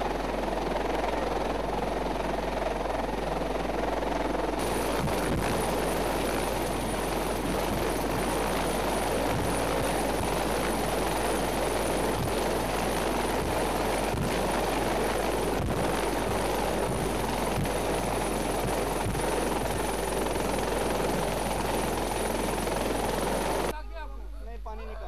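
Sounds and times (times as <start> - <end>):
helicopter rotor drone: 0.0 - 23.7.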